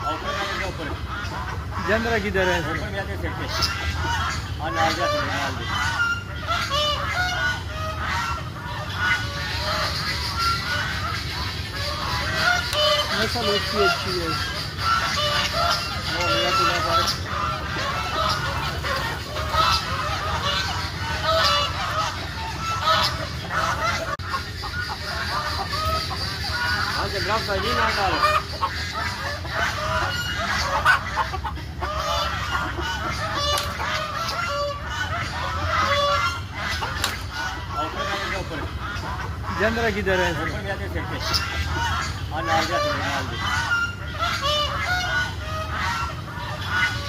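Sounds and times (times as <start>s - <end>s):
ducks quacking: 0.0s - 47.0s
waterfowl flock calling: 0.0s - 47.0s.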